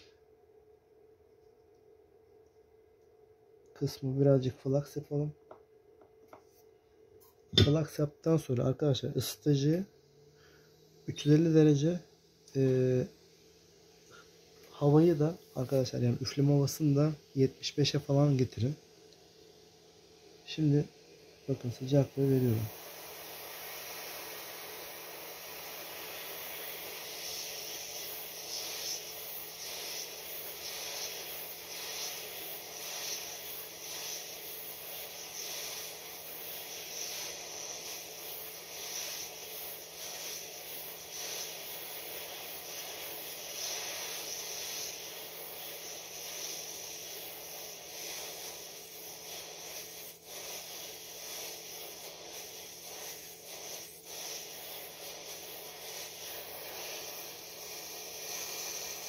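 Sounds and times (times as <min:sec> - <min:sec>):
hot air station hissing: 0:00.0 - 0:00.4, 0:03.7 - 0:59.0.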